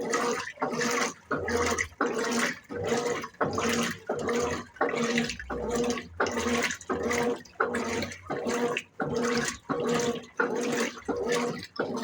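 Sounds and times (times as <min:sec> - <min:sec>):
motor hum: 0:00.0 - 0:12.0
washing machine water sloshing: 0:00.0 - 0:12.0.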